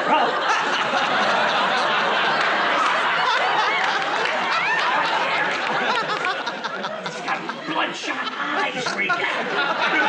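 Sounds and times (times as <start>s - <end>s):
audience laughing: 0.0s - 10.0s.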